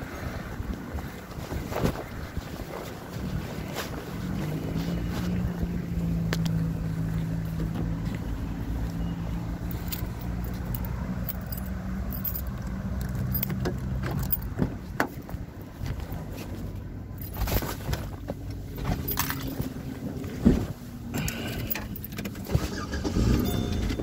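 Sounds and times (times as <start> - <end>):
car engine idling: 4.3 - 24.0.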